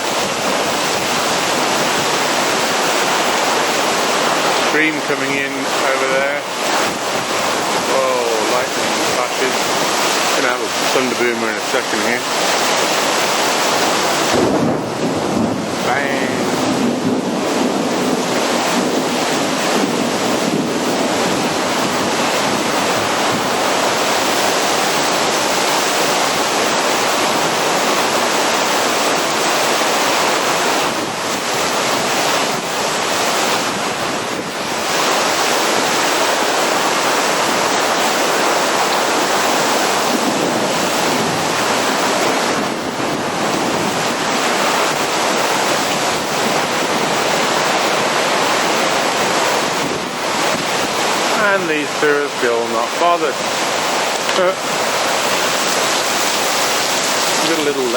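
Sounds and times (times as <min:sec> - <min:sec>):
torrential rain pouring: 0:00.0 - 0:57.9.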